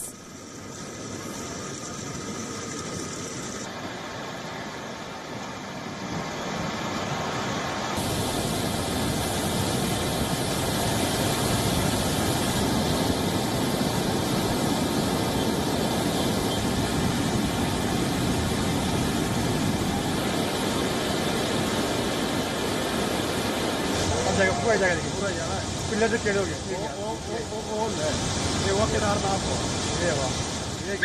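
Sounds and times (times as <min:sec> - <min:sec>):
rushing river water: 0:00.0 - 0:31.0.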